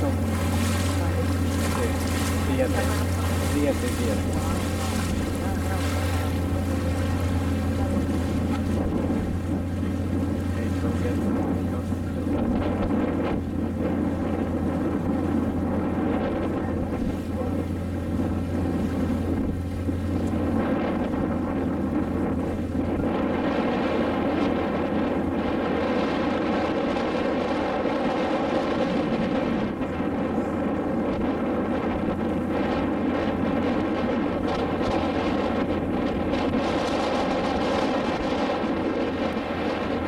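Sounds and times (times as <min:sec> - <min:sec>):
boat engine running: 0:00.0 - 0:40.0
wind buffeting microphone: 0:00.0 - 0:40.0.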